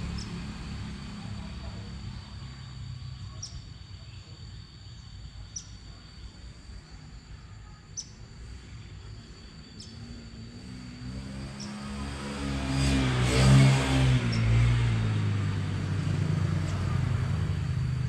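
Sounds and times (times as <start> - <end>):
high-pitched insect drone: 0.0 - 14.7.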